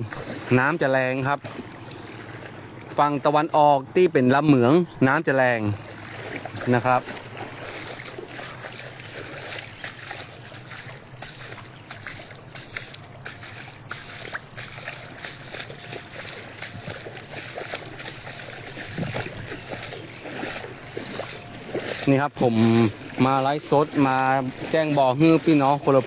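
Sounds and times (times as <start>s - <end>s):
floodwater splashing and sloshing: 0.0s - 26.0s.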